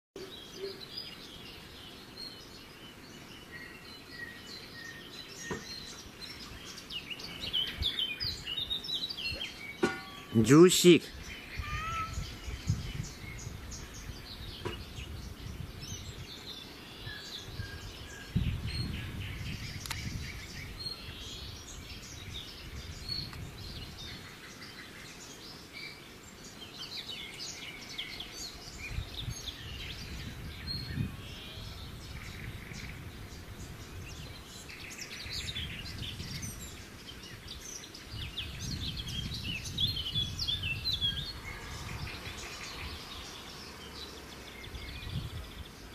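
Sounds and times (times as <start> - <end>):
small birds chirping: 0.2 - 45.9.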